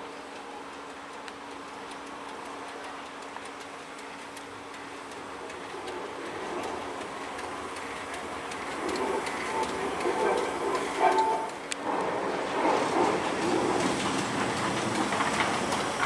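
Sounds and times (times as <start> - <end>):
light regular ticking: 0.0 - 16.0
steam locomotive moving slowly: 0.0 - 16.0.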